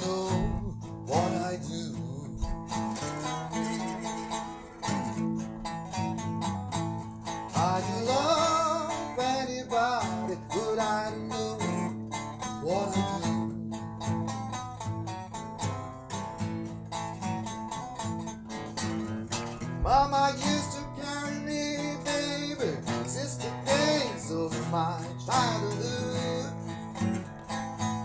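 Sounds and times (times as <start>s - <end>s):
guitar lead with bent notes: 0.0s - 28.0s.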